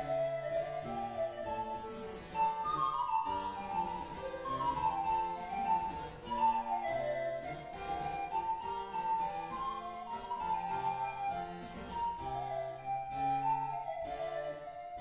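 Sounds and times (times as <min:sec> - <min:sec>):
panflute melody: 0:00.0 - 0:15.0.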